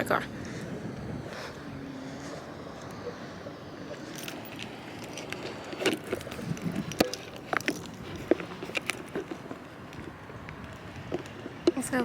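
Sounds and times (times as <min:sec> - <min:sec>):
footsteps outdoors: 0:00.0 - 0:12.0.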